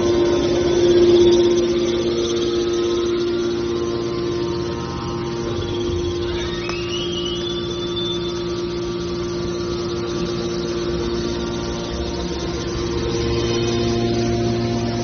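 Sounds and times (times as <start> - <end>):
high whine rising in pitch: 0.0 - 15.0
hydraulic baler humming: 0.0 - 15.0.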